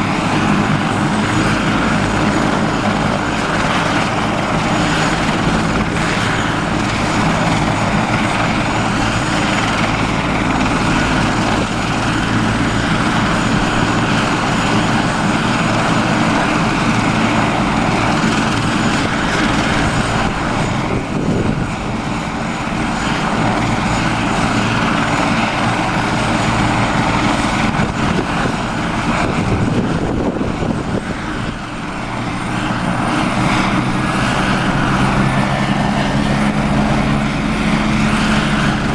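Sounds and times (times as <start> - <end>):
helicopter rotor and engine: 0.0 - 38.9.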